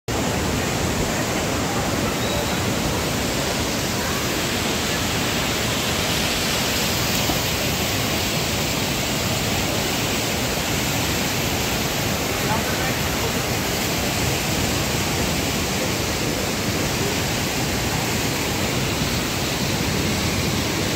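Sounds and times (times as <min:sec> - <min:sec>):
river rushing over rocks: 0:00.1 - 0:20.9.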